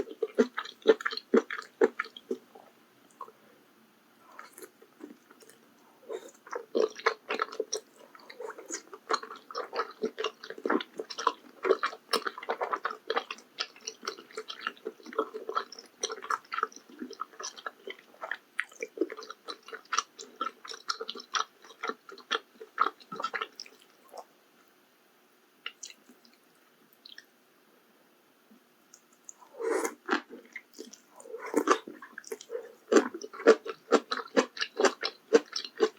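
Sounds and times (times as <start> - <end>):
chewing and slurping noodle soup: 0.0 - 2.5, 4.3 - 24.3, 28.9 - 35.9.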